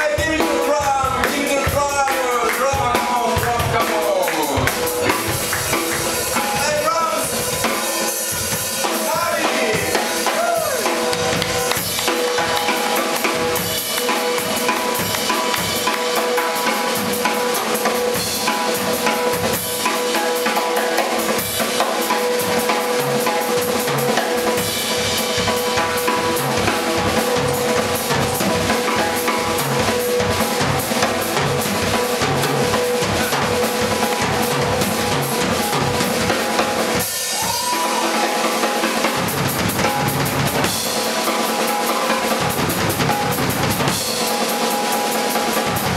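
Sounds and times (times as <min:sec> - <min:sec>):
band playing: 0:00.0 - 0:45.9
drum kit beat: 0:00.0 - 0:45.9.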